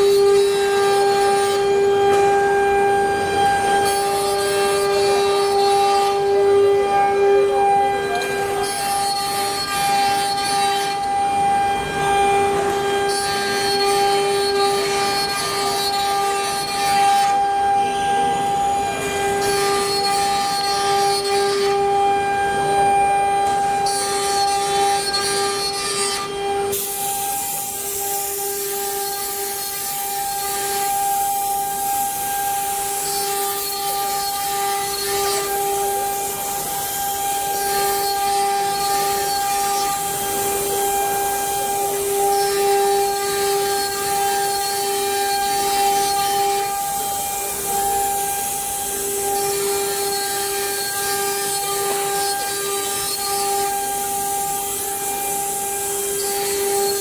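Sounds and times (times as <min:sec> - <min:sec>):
router bit cutting wood: 0:00.0 - 0:57.0
router spindle whine: 0:00.0 - 0:57.0.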